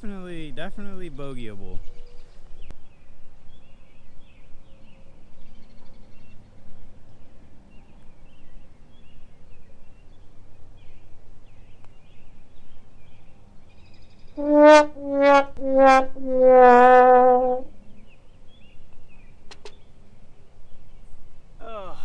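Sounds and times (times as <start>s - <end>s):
birds chirping: 0.0s - 15.1s, 17.2s - 22.0s.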